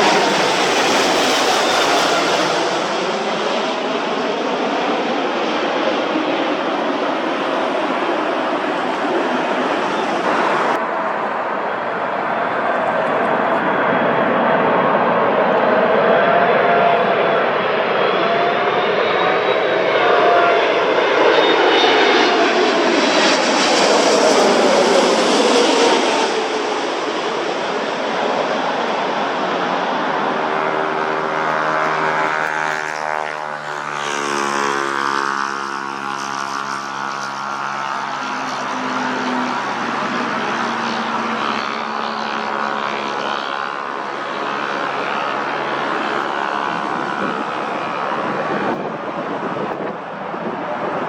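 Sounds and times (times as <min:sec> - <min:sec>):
jet aircraft passing: 0:00.0 - 0:51.0.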